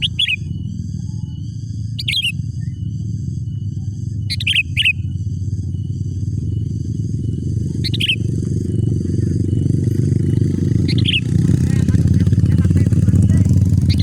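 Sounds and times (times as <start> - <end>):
bird chirped calls: 0.0 - 14.0
steady low rumble: 0.0 - 14.0.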